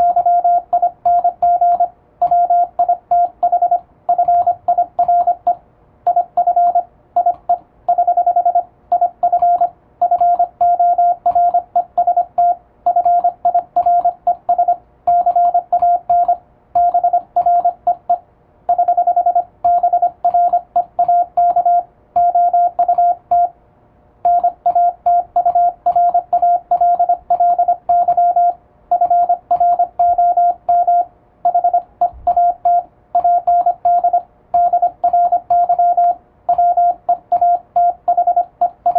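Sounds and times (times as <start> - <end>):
morse code beeps: 0.0 - 23.6, 24.2 - 38.9.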